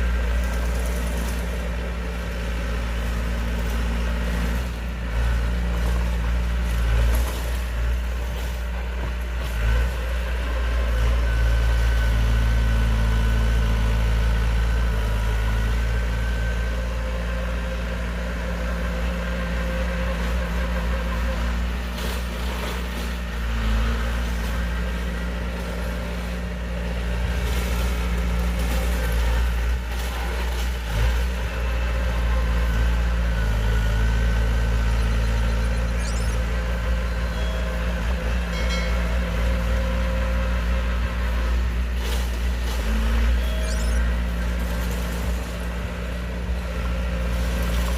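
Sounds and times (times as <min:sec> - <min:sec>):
diesel machinery running: 0:00.0 - 0:47.9.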